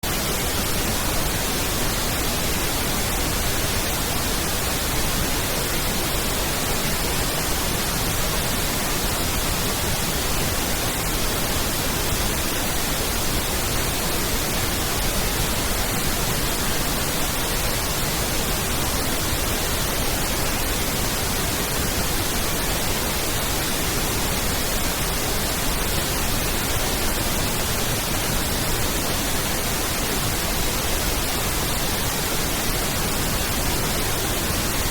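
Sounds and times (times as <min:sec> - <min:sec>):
pink noise hiss: 0:00.0 - 0:34.9.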